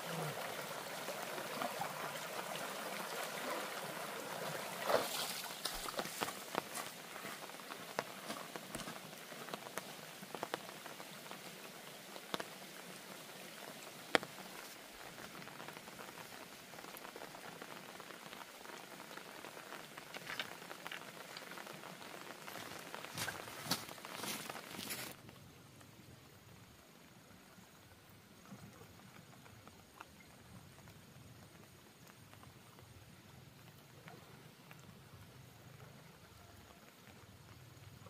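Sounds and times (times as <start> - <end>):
steady rain hiss: 0.0 - 38.0.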